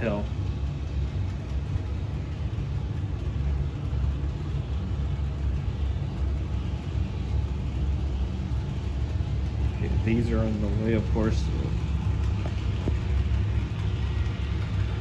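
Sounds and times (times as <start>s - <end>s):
model train motor rumbling: 0.0s - 15.0s.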